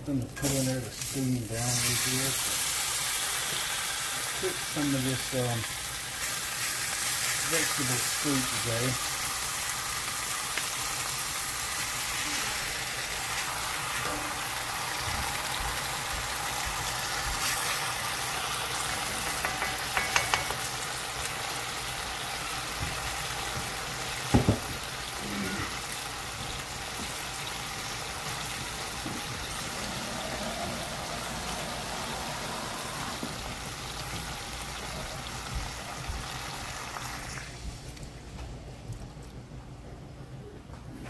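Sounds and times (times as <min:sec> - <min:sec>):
soup sizzling in a skillet: 0:00.3 - 0:38.0.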